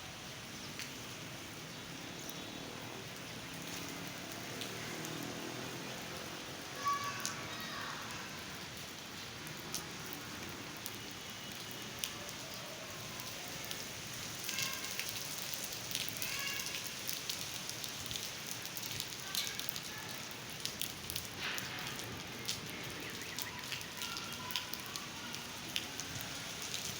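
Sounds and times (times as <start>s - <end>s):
steady rain falling: 0.0s - 26.9s
raindrops landing close by: 0.4s - 26.9s.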